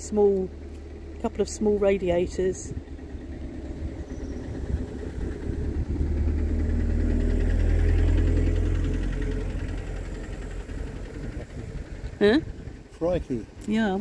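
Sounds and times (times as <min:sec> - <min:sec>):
vehicle engine rumble passing: 0:00.0 - 0:14.0.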